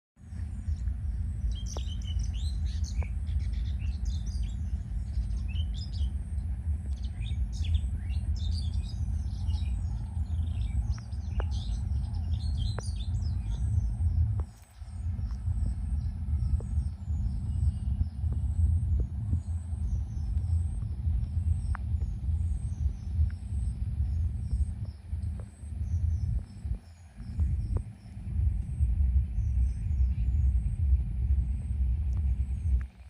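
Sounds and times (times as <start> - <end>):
low rumble: 0.2 - 33.0
small birds twittering: 0.2 - 33.0.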